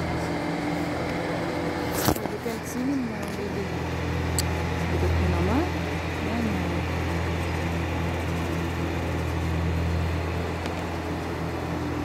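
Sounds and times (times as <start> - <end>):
boat hoist engine droning: 0.0 - 12.0.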